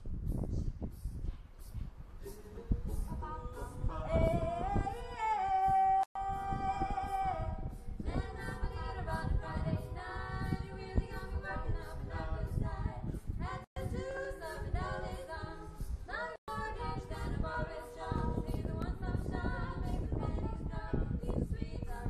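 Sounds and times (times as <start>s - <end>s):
vocal group singing in harmony: 2.2s - 22.0s.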